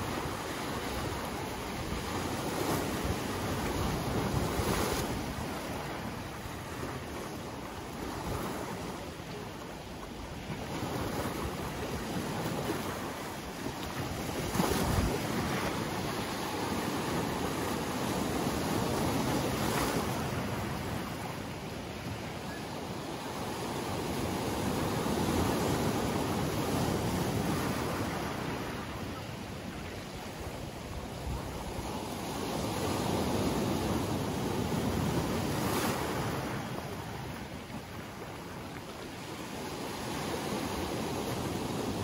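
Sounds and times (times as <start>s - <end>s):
waves breaking around boulders: 0.0s - 42.0s.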